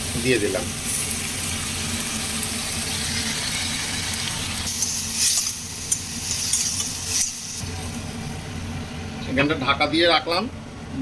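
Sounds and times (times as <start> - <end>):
vegetables sizzling in hot oil: 0.0 - 9.2
steady low hum: 0.0 - 11.0.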